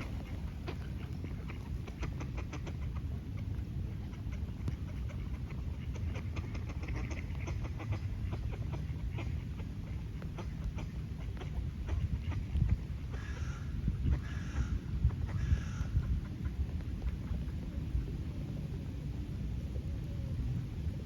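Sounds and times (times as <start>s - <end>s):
birds splashing water: 0.0s - 21.0s
wind rumble on microphone: 0.0s - 21.0s.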